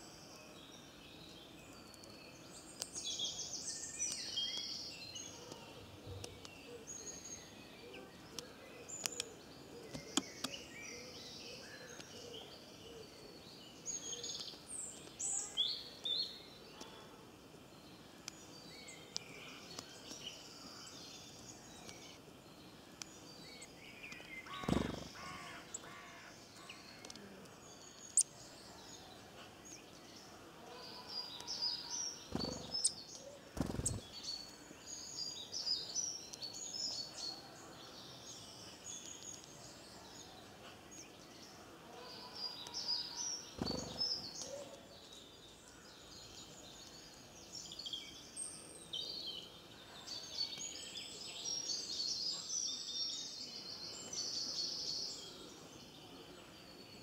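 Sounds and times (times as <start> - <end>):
songbirds twittering: 0.0 - 57.0.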